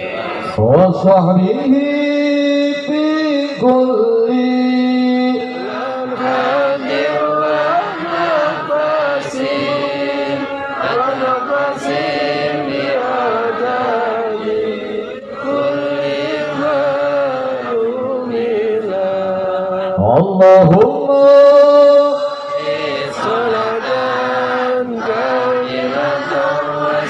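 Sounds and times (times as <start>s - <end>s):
man singing devotional praise: 0.0s - 27.0s.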